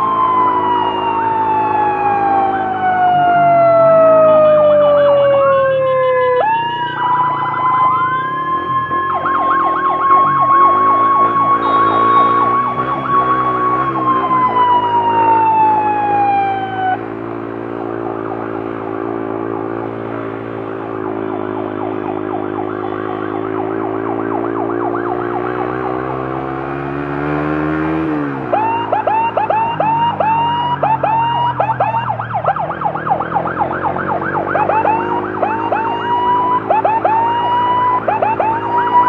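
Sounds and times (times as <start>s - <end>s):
ambulance siren yelping: 0.0s - 39.0s
siren wail tone: 0.0s - 39.0s
vehicle engine: 0.0s - 39.0s.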